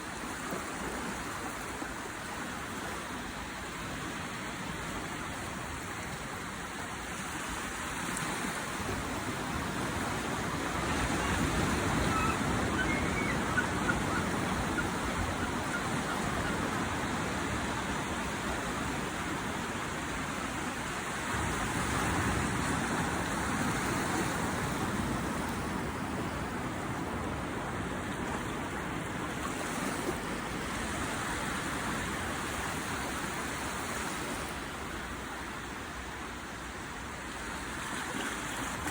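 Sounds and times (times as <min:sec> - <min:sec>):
ocean waves washing in: 0:00.0 - 0:38.9.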